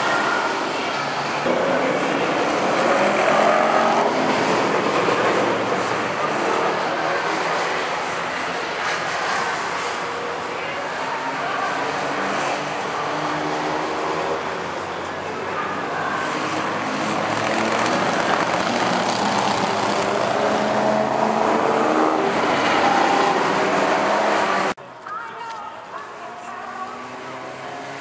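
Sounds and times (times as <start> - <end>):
race car engines driving past: 0.0 - 24.8, 26.0 - 28.0.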